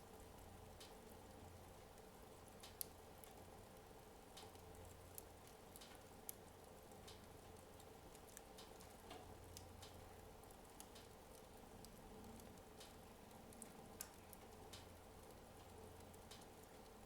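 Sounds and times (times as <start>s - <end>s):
wood fire embers crackling: 0.0s - 17.0s.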